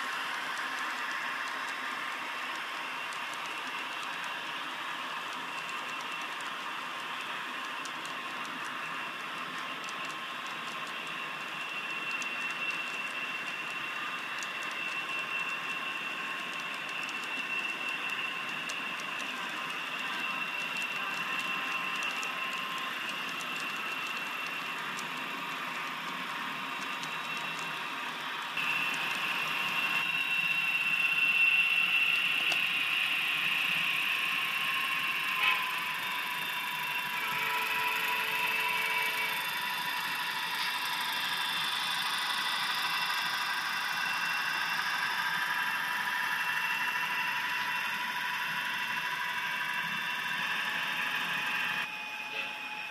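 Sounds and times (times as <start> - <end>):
wheels rolling on rail: 0.0 - 51.9
model locomotive whine: 0.0 - 52.9.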